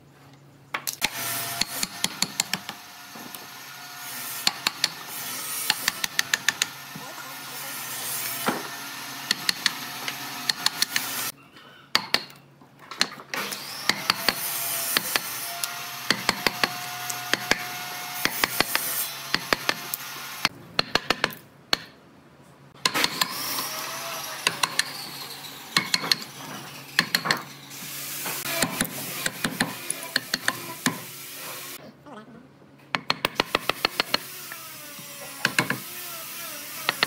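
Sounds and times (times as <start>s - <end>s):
workshop background noise: 0.5s - 31.8s, 32.6s - 37.0s.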